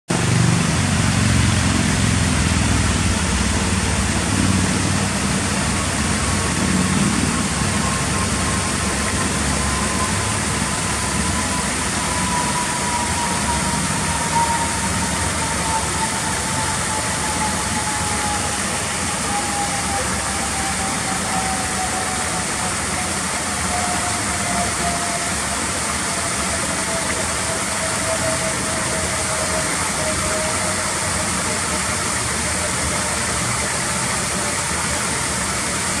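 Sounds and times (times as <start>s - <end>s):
thin whine: 0.1s - 36.0s
waterfall splashing into pool: 0.1s - 36.0s.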